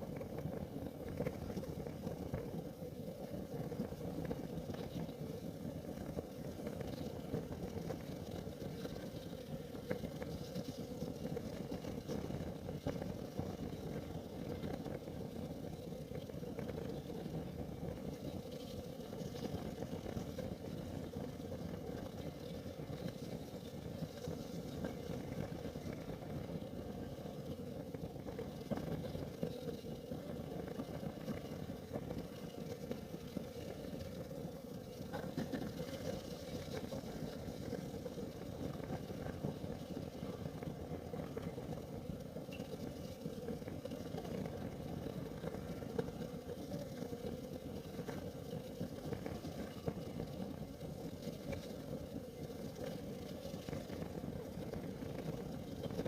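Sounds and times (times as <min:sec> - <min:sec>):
faint ticks and crackles: 0:00.0 - 0:56.0
heater flame humming: 0:00.0 - 0:56.0.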